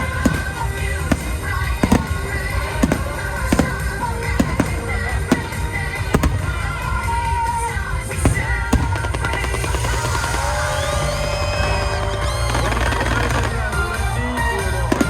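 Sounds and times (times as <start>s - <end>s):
fireworks banging: 0.0s - 15.0s
loud music: 0.0s - 15.0s.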